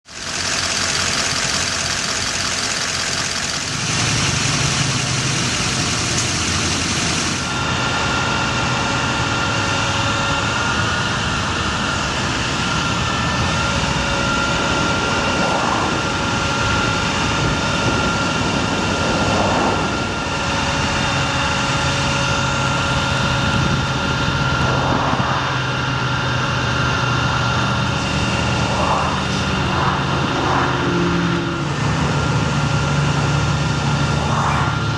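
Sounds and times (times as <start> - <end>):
thin steady whine: 0.1 - 34.9
truck engine idling: 0.1 - 34.9.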